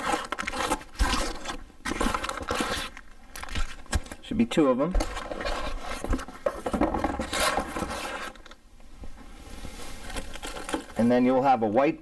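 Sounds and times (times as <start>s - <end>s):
cardboard and plastic rustling: 0.0s - 11.6s.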